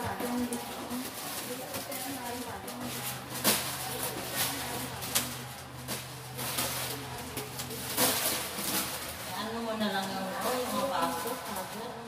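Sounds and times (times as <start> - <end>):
plastic wrappers rustling: 0.0 - 12.0.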